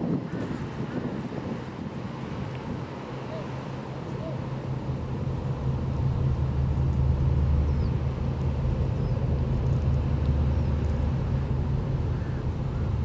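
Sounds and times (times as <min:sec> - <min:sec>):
ship engine droning: 0:00.7 - 0:13.0.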